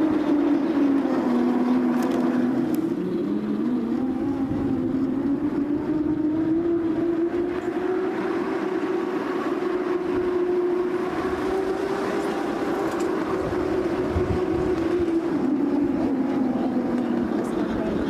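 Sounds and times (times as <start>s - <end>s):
train coach droning hum: 0.0s - 18.0s.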